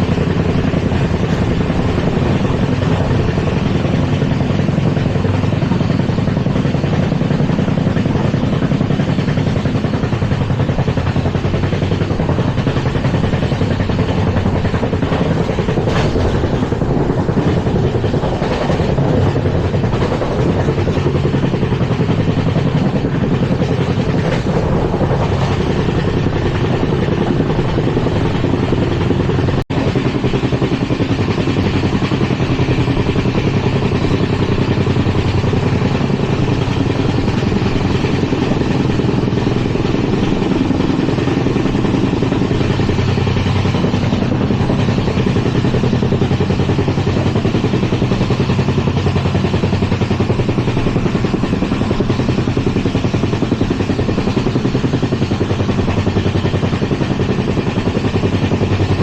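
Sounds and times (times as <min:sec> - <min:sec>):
train wheels clattering on rail: 0:00.0 - 0:59.0.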